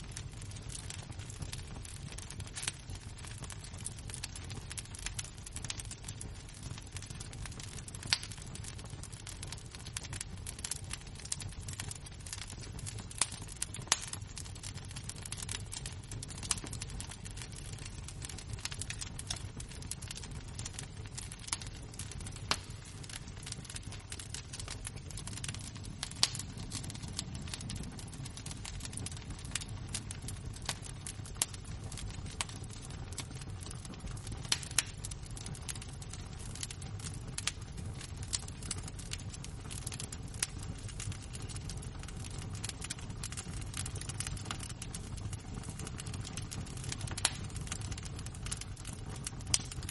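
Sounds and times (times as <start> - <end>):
embers crackling and popping: 0.0 - 49.9.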